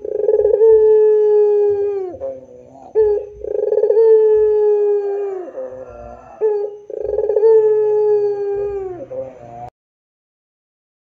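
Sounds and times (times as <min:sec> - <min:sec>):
dove cooing: 0:00.0 - 0:09.7.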